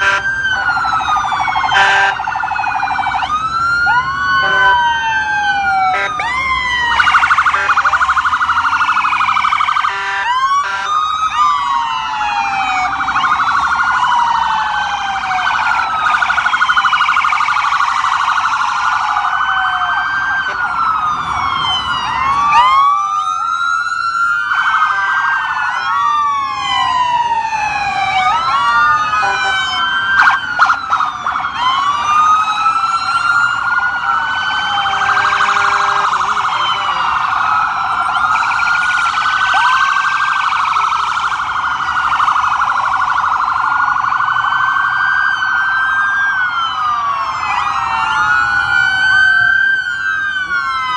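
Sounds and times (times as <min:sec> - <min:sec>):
police sirens wailing: 0:00.0 - 0:50.9
siren yelp: 0:00.0 - 0:50.9.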